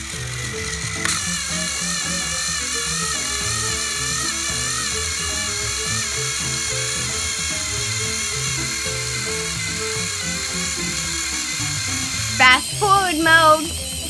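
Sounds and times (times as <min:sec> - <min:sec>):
toy train electric motor whine: 0:00.0 - 0:14.0.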